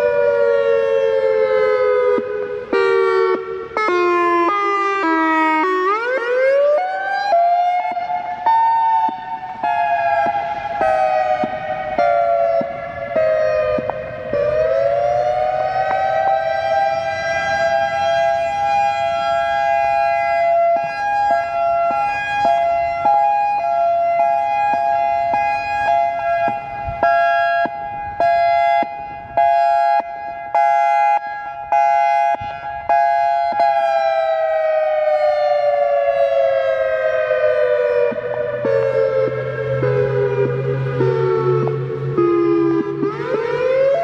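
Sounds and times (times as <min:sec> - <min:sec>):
electronic warning siren two-note tone: 0:07.0 - 0:44.0.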